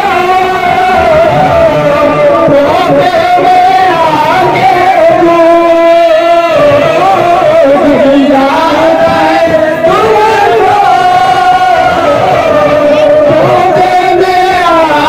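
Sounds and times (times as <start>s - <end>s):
men singing into microphones: 0.0s - 15.0s.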